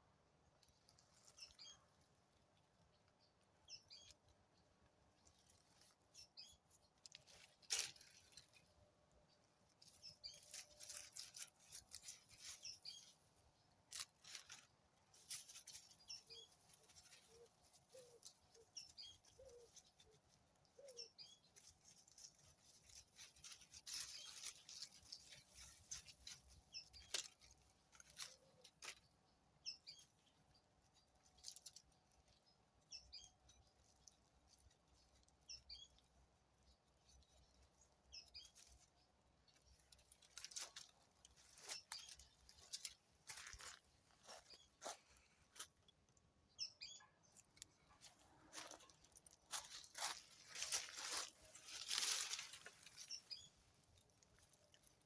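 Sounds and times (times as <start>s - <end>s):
dry leaves and twigs crackling: 0.3s - 55.0s
small bird chirps: 0.7s - 55.0s.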